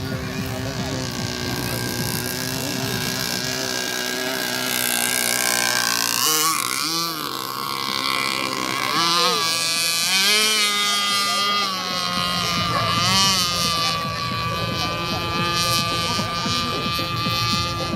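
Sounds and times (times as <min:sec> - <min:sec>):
model boat engine running: 0:00.0 - 0:17.9.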